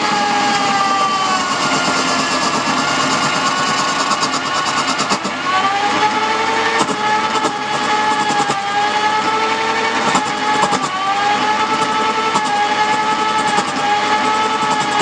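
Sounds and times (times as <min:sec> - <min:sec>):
wood lathe whining: 0:00.0 - 0:15.0.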